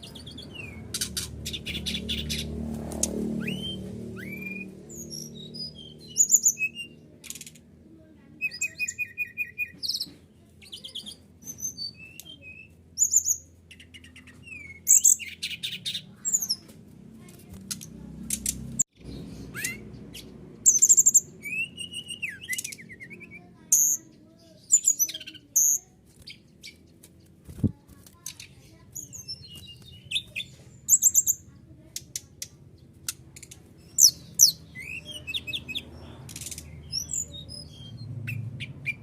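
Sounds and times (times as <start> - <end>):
bird singing chirps and trills: 0.0 - 16.7, 17.4 - 39.0.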